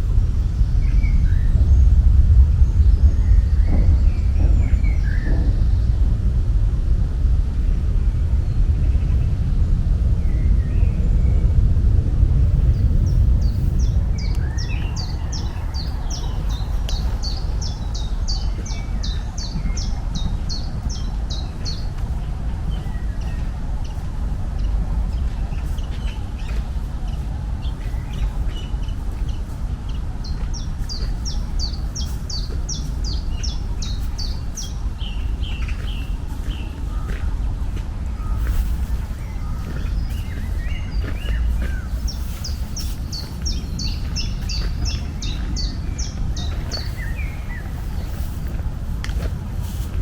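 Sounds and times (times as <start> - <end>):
songbird singing: 0.0 - 50.0
steady low rumble: 0.0 - 50.0.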